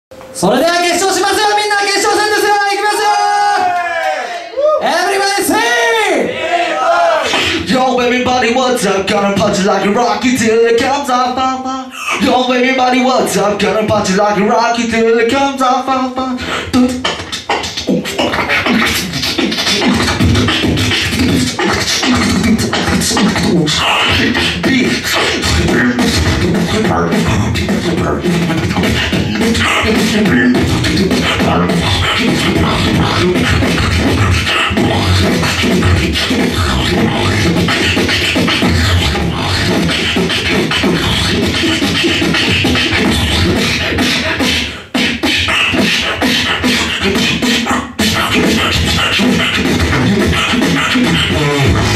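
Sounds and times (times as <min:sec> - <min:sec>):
person beatboxing into microphone: 0:07.2 - 0:51.9.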